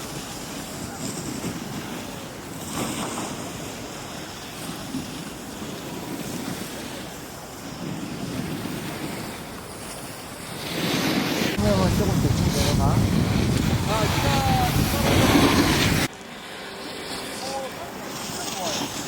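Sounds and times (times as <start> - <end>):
wind rushing over microphone: 0.0 - 16.1.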